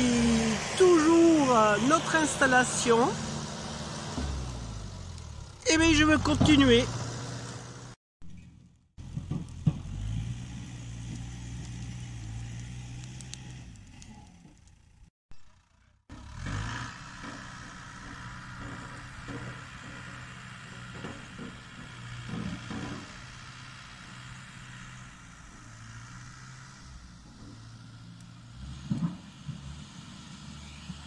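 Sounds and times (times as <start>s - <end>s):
distant tractor engine running: 0.0s - 31.0s.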